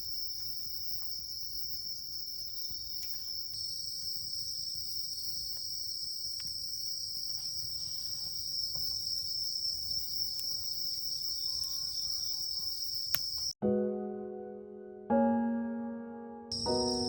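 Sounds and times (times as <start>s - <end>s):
crickets chirping: 0.0s - 13.6s, 16.5s - 17.0s.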